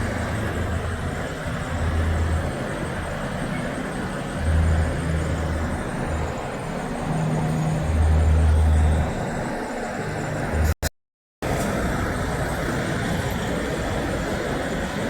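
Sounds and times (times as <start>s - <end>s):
heavy vehicles rumbling: 0.0s - 10.8s, 11.4s - 15.0s
road traffic passing: 0.0s - 15.0s.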